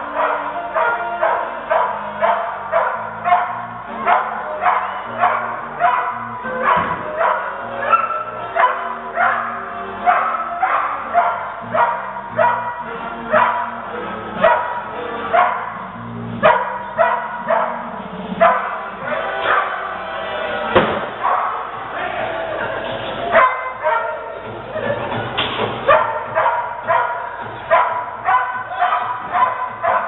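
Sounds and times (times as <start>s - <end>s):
dog barking: 0.0s - 13.8s, 14.4s - 20.0s, 21.2s - 21.7s, 23.3s - 24.4s, 25.8s - 30.0s
background music: 0.0s - 30.0s.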